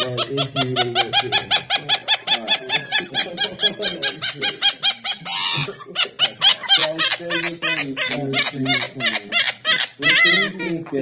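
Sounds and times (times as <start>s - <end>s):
man laughing: 0.0s - 9.1s
parrot laugh-like squawks: 0.0s - 11.0s.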